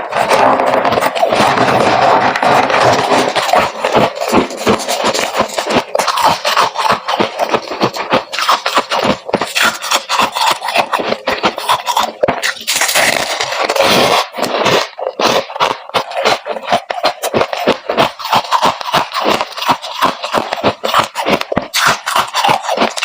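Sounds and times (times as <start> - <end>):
frost being crunched and chewed: 0.0 - 23.0.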